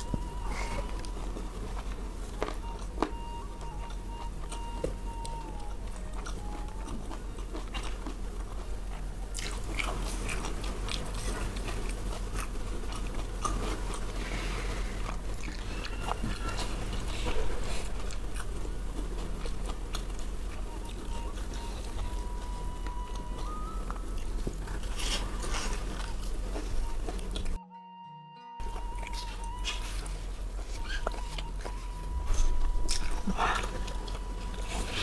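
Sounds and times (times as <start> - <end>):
person chewing and crunching food: 0.0 - 27.6, 28.6 - 35.0.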